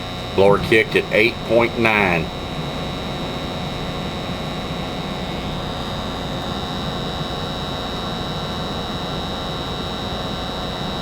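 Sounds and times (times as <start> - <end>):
furnace blower rushing air: 0.4 - 10.0
high-pitched whine: 0.4 - 11.0.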